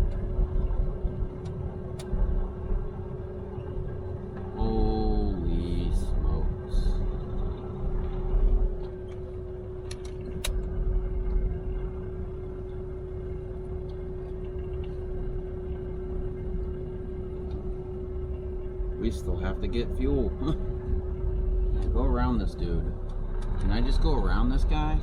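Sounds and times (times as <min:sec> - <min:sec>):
constant hum: 0:00.0 - 0:25.0
truck engine rumbling: 0:00.0 - 0:25.0.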